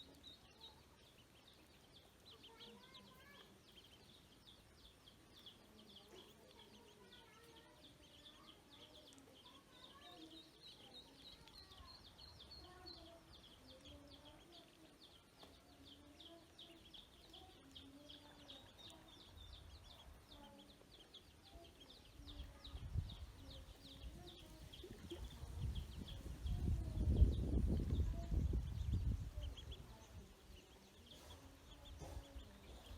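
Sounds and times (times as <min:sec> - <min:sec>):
ducklings peeping: 0:00.0 - 0:32.9.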